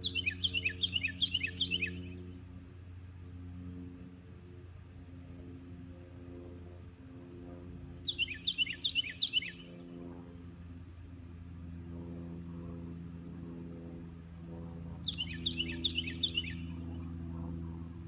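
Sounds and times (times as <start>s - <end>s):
low hum of held tones: 0.0s - 18.0s
songbird chirps: 0.0s - 18.0s.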